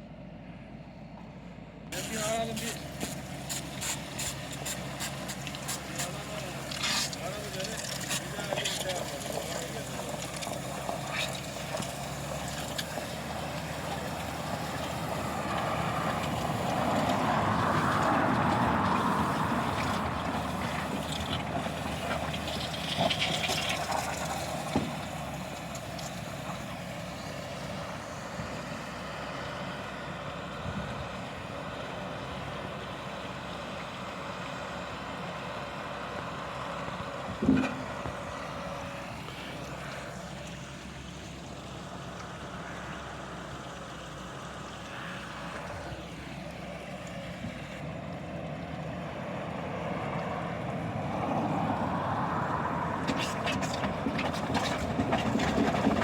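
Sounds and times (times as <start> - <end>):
heavy machinery engine running: 0.0 - 56.0.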